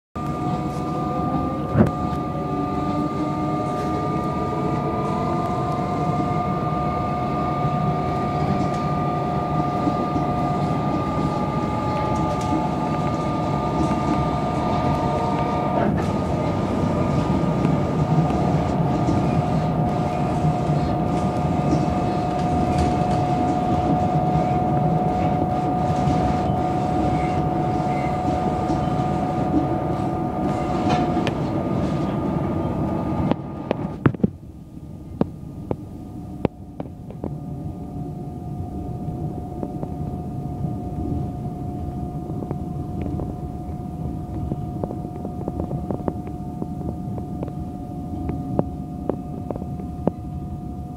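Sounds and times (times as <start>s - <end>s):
high electric whine: 0.2s - 50.9s
train rumble: 0.2s - 50.9s.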